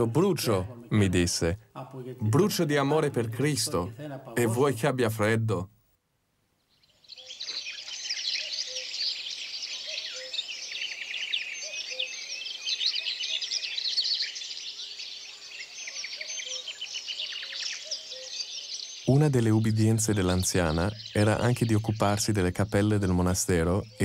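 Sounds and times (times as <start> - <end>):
small birds chirping and twittering: 0.0 - 5.4, 6.5 - 24.0.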